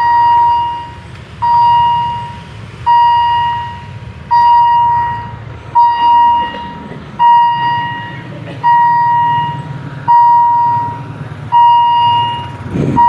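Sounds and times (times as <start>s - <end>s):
level crossing warning tone: 0.0s - 13.0s.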